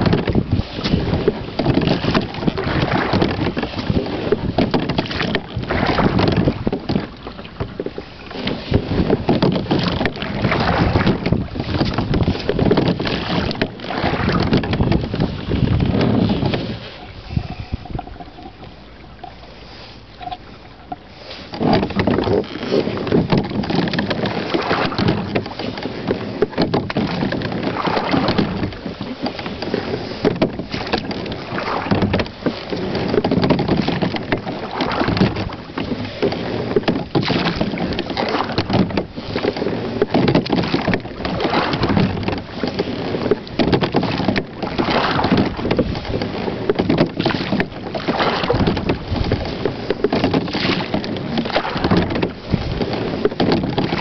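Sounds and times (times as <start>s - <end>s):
oar strokes in water: 0.0s - 54.0s.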